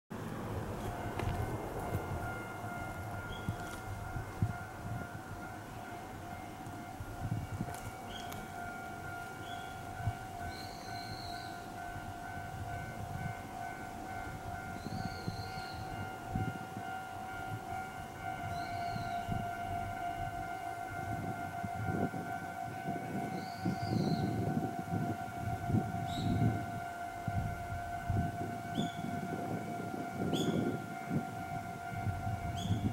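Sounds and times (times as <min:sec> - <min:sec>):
train rumble: 0:00.1 - 0:32.9
level crossing alarm bell ringing: 0:01.0 - 0:32.9.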